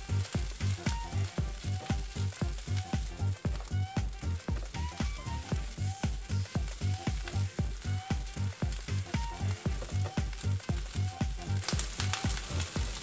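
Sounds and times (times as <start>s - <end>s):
background music with beat: 0.0s - 13.0s
rice frying and sizzling: 0.0s - 13.0s.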